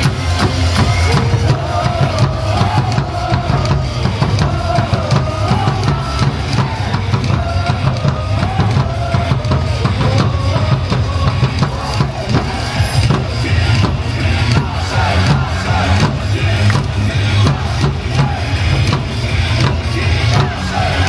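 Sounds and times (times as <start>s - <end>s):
cheer music with drum beat: 0.0s - 21.0s.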